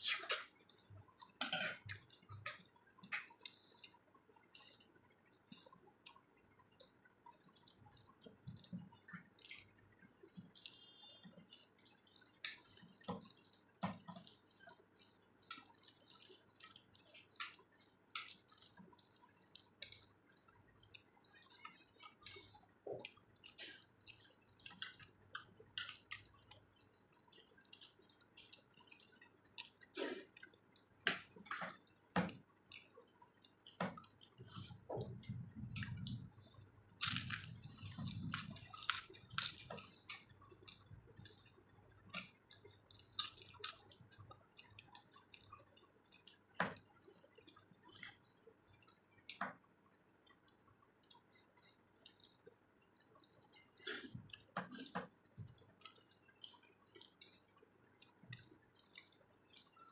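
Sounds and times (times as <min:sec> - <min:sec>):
wet chewing and lip smacks: 0:00.0 - 0:59.9.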